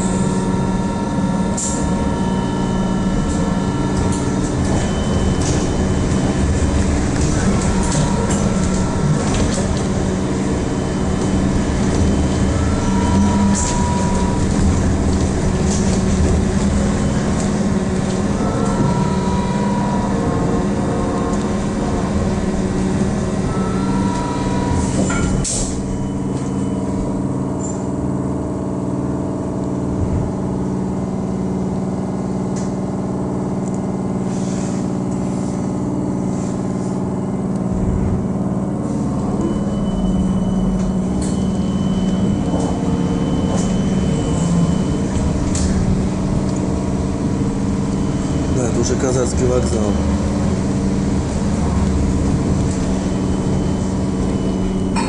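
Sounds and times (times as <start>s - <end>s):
trolleybus electrical hum: 0.0s - 55.0s.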